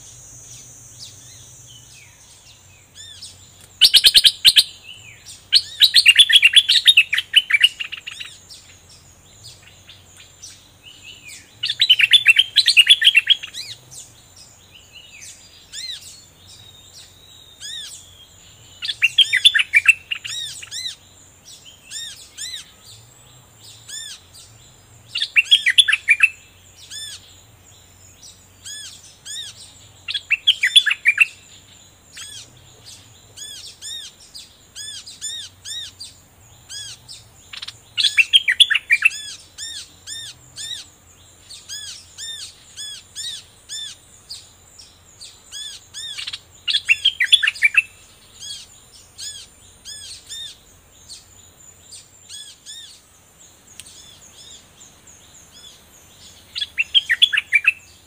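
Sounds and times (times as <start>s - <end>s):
bird chattering song: 0.0s - 58.0s.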